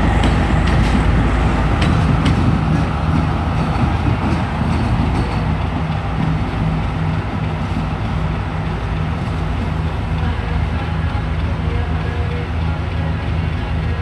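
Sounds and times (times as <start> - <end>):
diesel engine drone: 0.0 - 14.0
train wheels rumbling on rails: 0.0 - 14.0.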